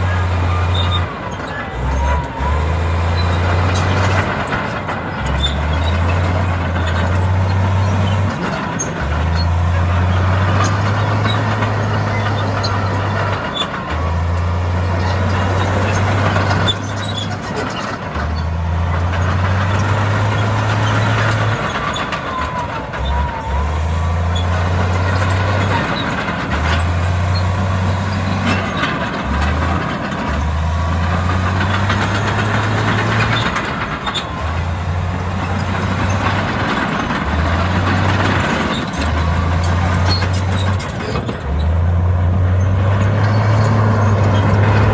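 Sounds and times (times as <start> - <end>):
diesel machinery din: 0.0 - 44.9.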